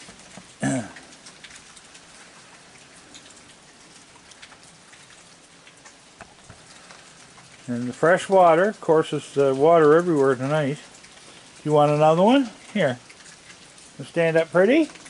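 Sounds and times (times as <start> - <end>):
drops ticking close by: 0.0 - 15.0
heavy rain falling: 0.0 - 15.0.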